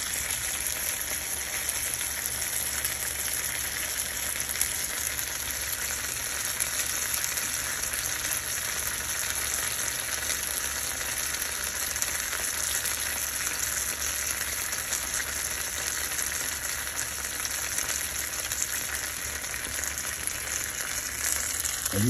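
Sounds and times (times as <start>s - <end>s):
cakes sizzling in a skillet: 0.0s - 22.0s.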